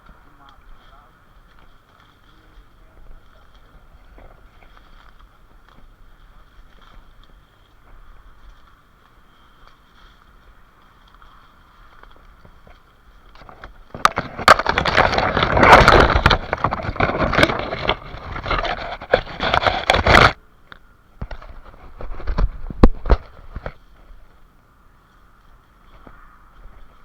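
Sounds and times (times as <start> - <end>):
scraping and crackling: 0.0 - 27.0.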